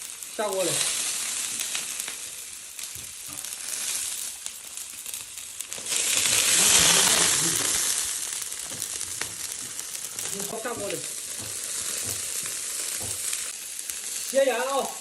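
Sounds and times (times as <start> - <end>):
cabbage sizzling in hot fat: 0.0 - 15.0.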